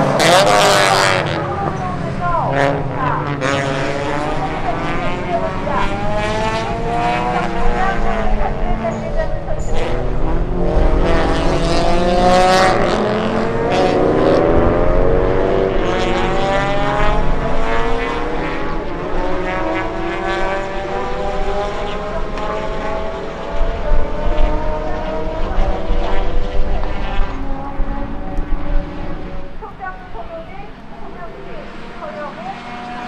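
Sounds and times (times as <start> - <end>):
race car engines accelerating: 0.0 - 33.0.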